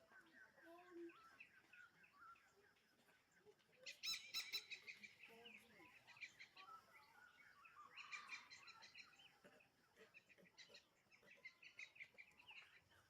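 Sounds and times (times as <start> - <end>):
birds chirping and twittering: 0.0 - 13.0.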